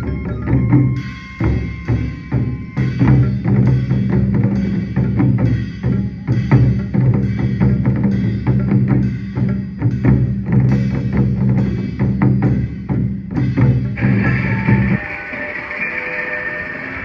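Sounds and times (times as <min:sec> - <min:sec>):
taiko drums drumming: 0:00.0 - 0:16.1.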